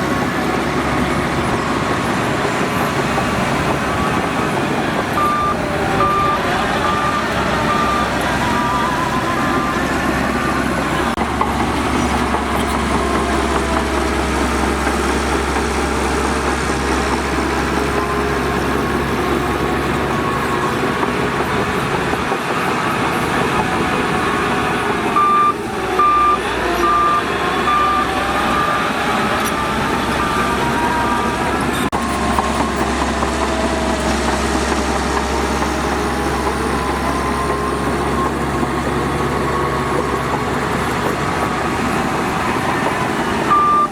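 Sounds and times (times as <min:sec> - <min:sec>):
reversing alarm beeps: 0:00.0 - 0:11.2, 0:17.6 - 0:34.1, 0:35.5 - 0:43.9
diesel machinery running: 0:00.0 - 0:43.9.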